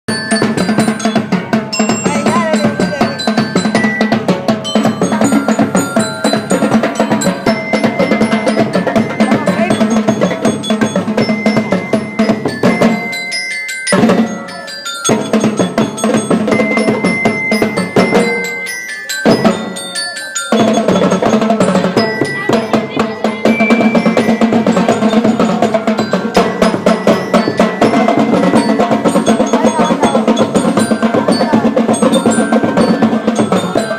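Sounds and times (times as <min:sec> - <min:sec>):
snare and bass drums: 0:00.1 - 0:19.8, 0:20.5 - 0:33.9
glockenspiel melody: 0:00.1 - 0:33.9
marching band playing: 0:00.1 - 0:33.9.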